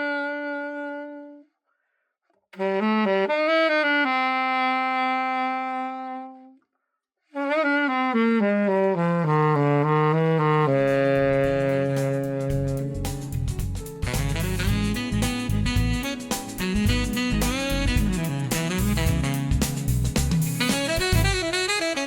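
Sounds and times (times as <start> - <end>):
alto saxophone solo: 0.0 - 1.6, 2.5 - 6.6, 7.3 - 22.0.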